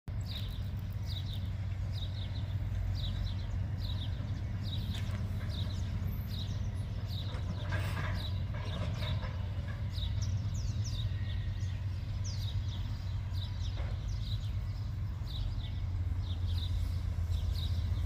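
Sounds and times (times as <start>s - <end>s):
train rumble: 0.1s - 18.0s.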